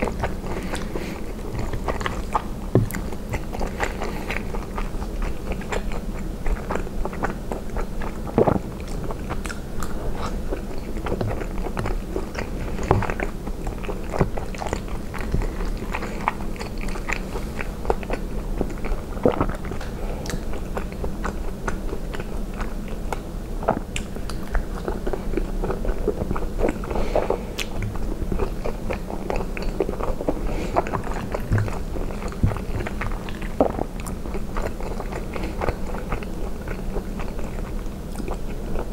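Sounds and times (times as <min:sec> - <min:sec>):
close chewing wet mouth sounds: 0:00.0 - 0:38.9.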